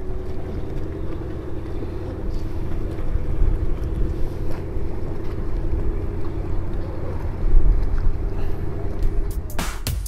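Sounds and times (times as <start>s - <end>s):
wind on microphone: 0.0s - 9.4s
motorboat engine drone: 0.0s - 9.9s.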